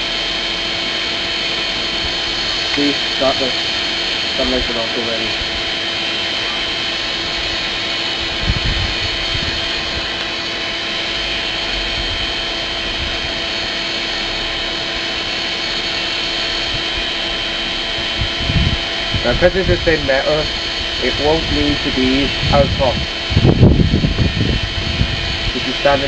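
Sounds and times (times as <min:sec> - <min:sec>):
forge air blower rushing: 0:00.0 - 0:26.0.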